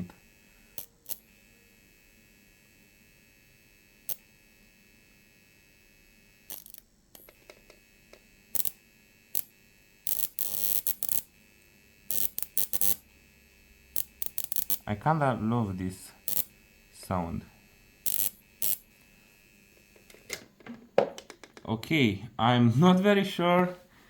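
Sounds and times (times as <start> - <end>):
electric arcs snapping and buzzing: 0.0 - 21.7
faint high inverter whine: 0.0 - 24.0.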